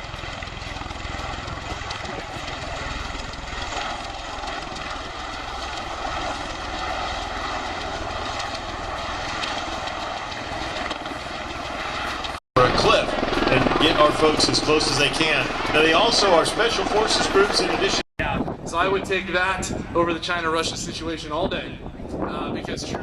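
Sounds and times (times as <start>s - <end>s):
heavy aircraft rotor noise: 0.0s - 23.0s.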